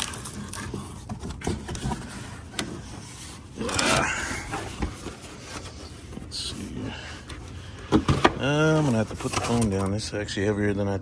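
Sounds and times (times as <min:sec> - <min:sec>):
packaging rustle: 0:00.0 - 0:10.0
packaging rubbing and scraping: 0:00.0 - 0:10.1.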